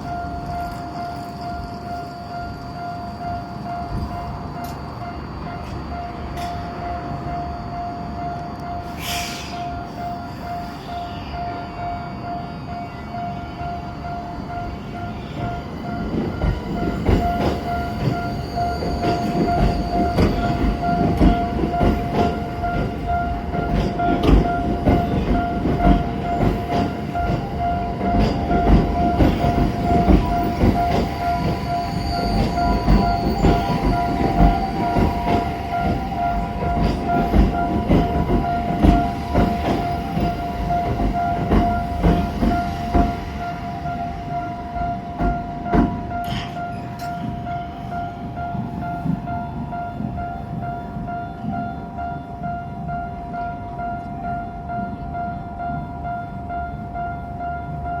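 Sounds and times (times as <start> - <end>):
level-crossing alarm dinging: 0.0 - 58.0
train rumbling: 0.0 - 58.0.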